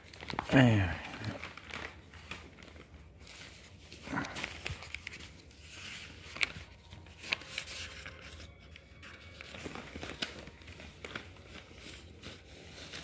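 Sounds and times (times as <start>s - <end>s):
newspaper rustling and crumpling: 0.0s - 13.0s
sharp paper crackles: 0.0s - 13.0s.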